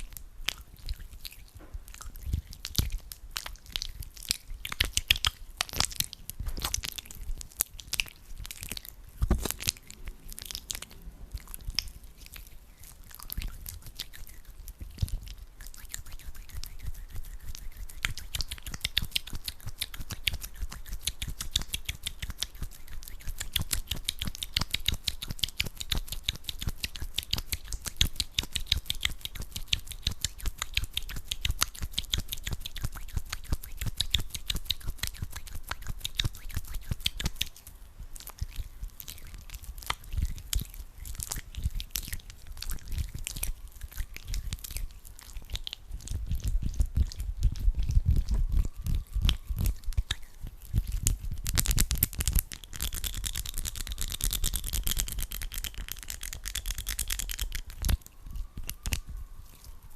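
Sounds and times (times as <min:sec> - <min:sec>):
hands rubbing sticky gel: 0:00.0 - 0:59.9.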